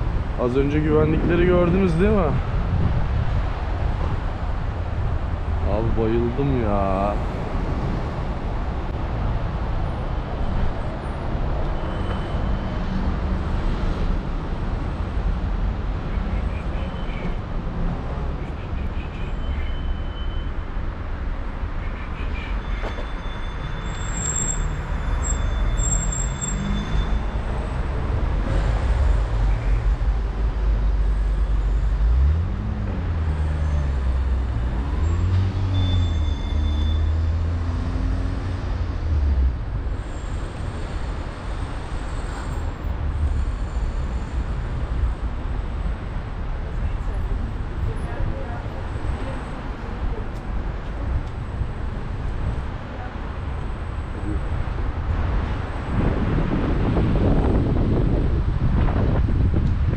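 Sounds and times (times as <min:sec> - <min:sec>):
rumble of passing vehicles: 0:00.0 - 0:59.9.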